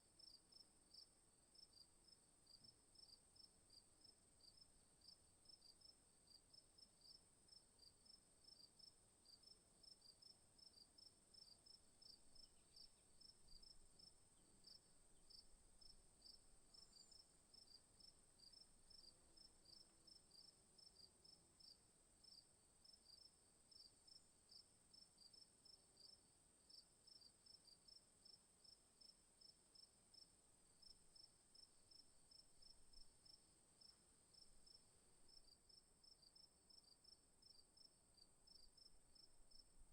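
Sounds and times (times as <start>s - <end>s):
insect chirping: 7.0s - 24.6s, 25.2s - 39.9s.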